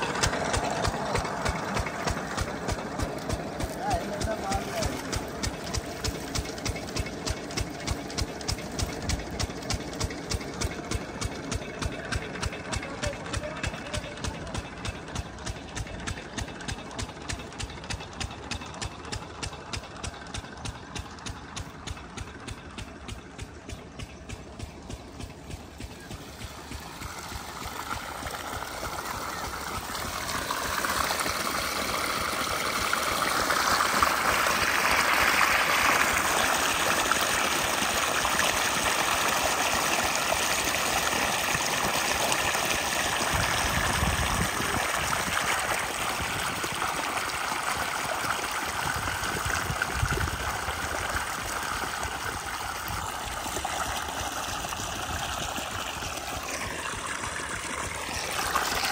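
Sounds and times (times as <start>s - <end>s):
water gushing and splashing: 0.0s - 23.7s, 24.4s - 58.9s.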